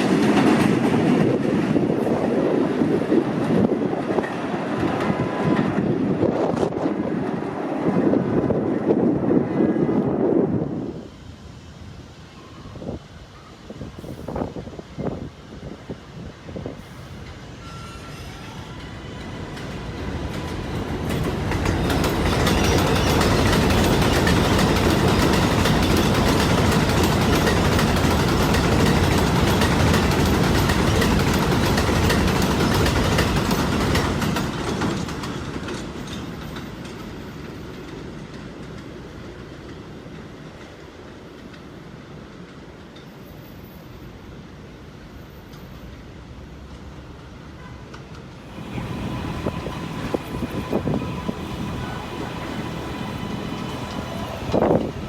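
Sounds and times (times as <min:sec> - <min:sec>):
subway train passing: 0:00.0 - 0:55.0.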